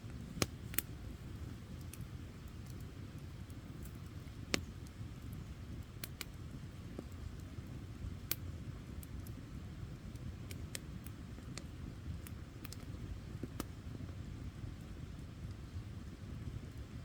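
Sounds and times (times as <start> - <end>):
campfire rumble: 0.0 - 17.0
fire crackles and pops: 0.0 - 17.0.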